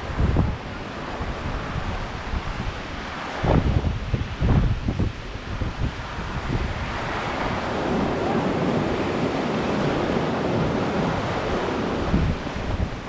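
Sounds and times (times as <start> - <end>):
surf breaking on sand and rocks: 0.0 - 13.0
wind buffeting microphone: 0.0 - 13.0.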